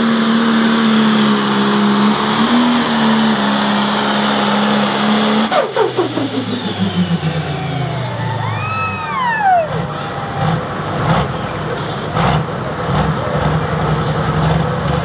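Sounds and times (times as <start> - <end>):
diesel engine whine and idle: 0.0 - 15.0.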